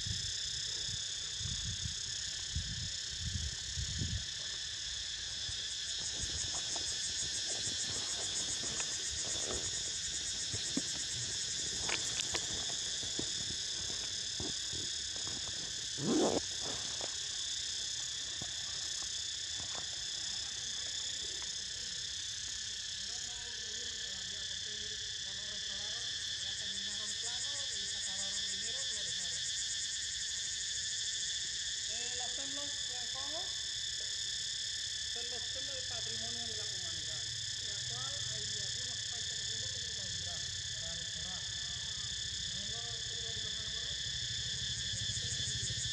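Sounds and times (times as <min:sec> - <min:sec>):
cicadas droning: 0:00.0 - 0:45.9.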